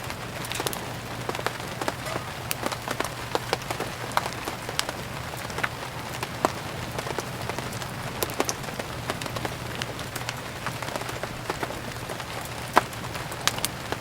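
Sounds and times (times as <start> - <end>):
rain falling: 0.0 - 14.0
wood fire crackling: 0.0 - 14.0.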